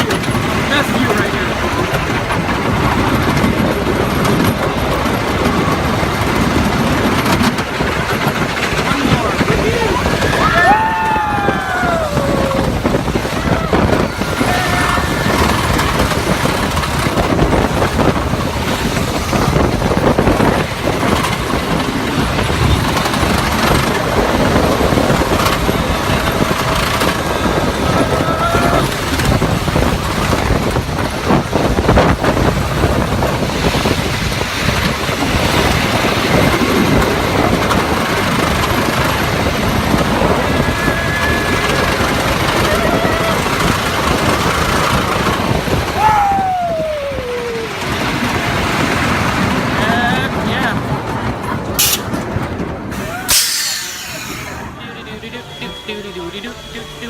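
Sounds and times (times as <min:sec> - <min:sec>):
roller coaster rumbling on track: 0:00.0 - 0:57.0
wind noise: 0:00.0 - 0:57.0.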